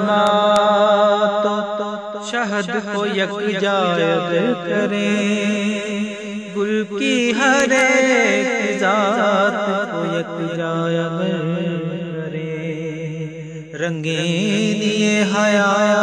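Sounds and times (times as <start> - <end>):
man singing: 0.0 - 16.0.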